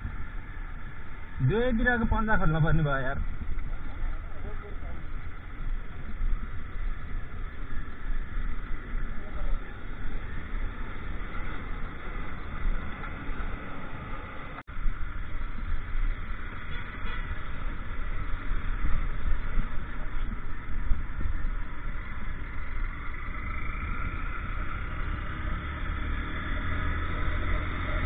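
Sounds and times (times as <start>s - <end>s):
wind rumbling on microphone: 0.0s - 27.8s.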